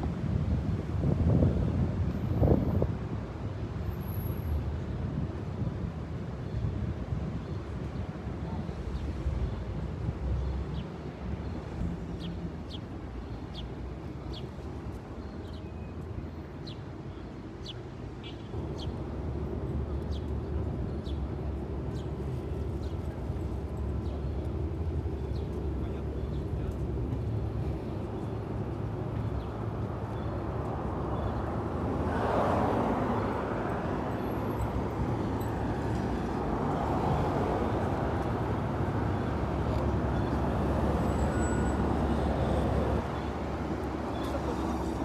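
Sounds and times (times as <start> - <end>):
low traffic rumble: 0.0 - 45.0.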